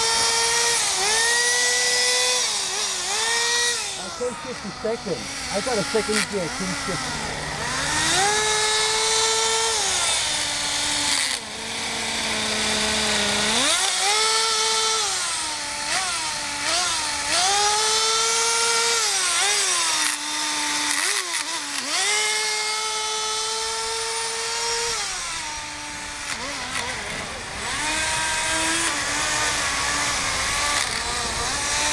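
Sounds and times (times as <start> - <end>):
small nitro engine revving: 0.0 - 31.9.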